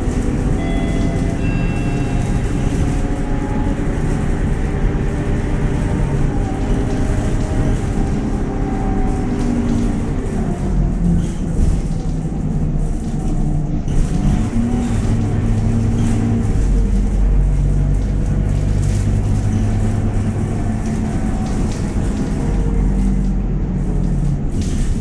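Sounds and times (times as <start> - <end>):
bus diesel engine pulling: 0.0 - 25.0.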